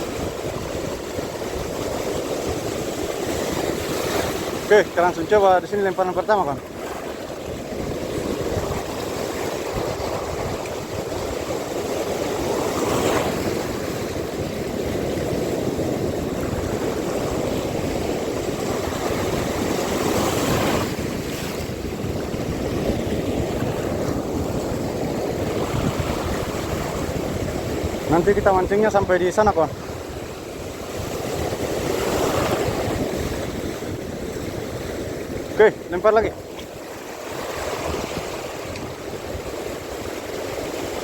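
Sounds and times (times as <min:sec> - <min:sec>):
sea waves breaking on shore: 0:00.0 - 0:41.0
wind on microphone: 0:00.0 - 0:41.0.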